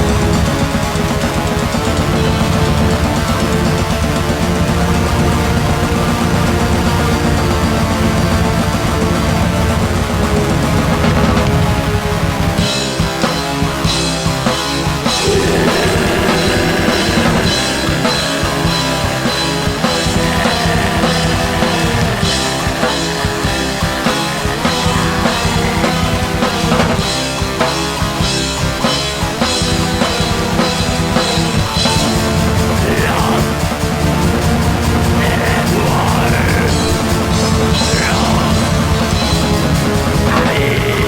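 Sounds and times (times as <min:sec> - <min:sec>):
distorted guitar: 0:00.0 - 0:41.0
fast drumming: 0:00.0 - 0:41.0
held keyboard chords: 0:00.0 - 0:41.0
symphonic black metal music: 0:00.0 - 0:41.0.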